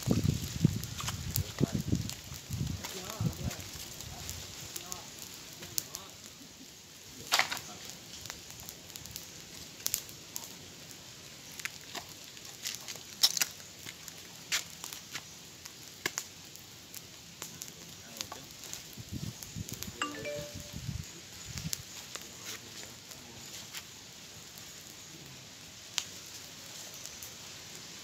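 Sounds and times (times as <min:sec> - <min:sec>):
faint steady background noise: 0:00.0 - 0:28.0.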